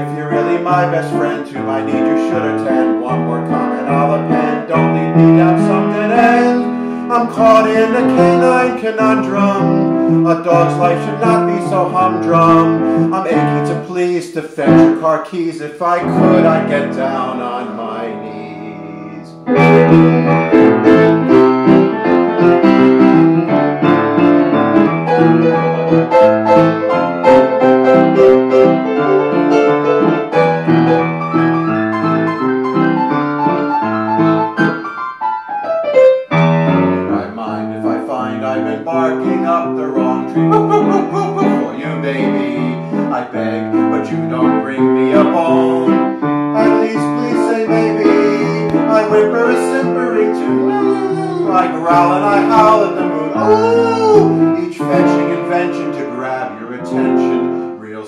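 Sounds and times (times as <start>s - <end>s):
fast lively solo piano: 0.0s - 58.0s.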